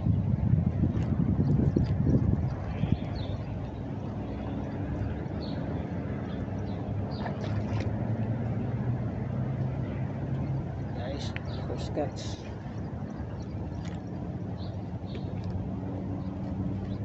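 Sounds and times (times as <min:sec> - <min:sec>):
engine running: 0:00.3 - 0:17.0.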